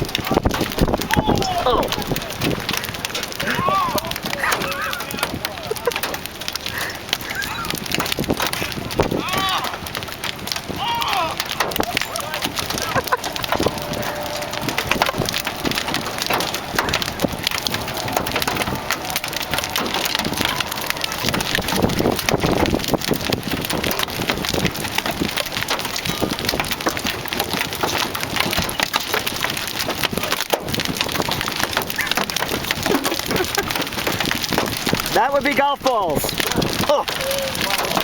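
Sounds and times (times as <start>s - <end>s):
hailstones clattering: 0.0s - 38.0s.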